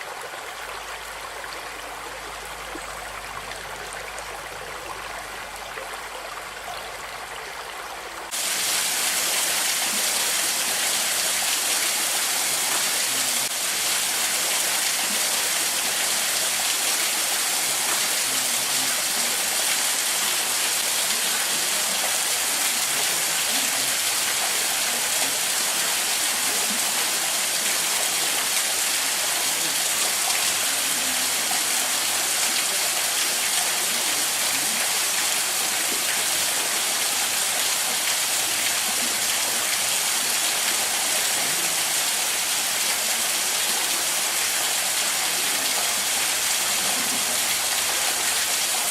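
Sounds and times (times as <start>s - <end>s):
creek and waterfall rushing: 0.0s - 48.9s.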